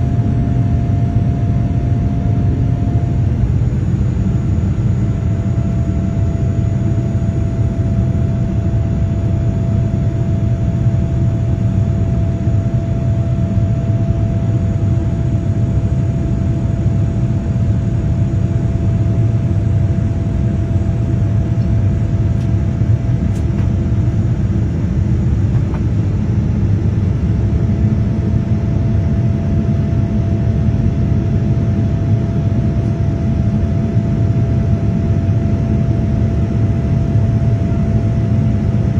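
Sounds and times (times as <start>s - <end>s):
airplane cabin engine rumble: 0.0s - 38.9s
constant whine: 0.0s - 38.9s.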